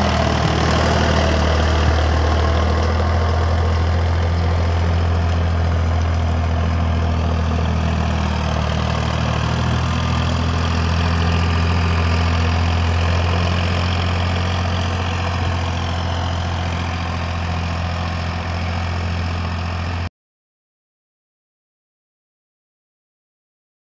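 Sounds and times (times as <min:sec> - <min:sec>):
tractor diesel engine running: 0:00.0 - 0:20.1.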